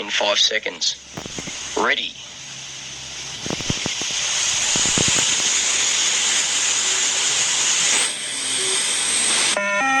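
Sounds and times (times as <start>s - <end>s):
loud steady hiss: 0.0s - 9.6s.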